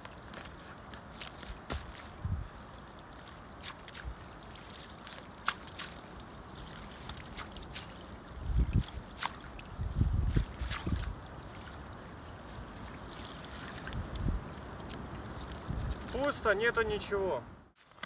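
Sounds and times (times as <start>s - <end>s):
water dripping and sloshing: 0.0s - 16.4s.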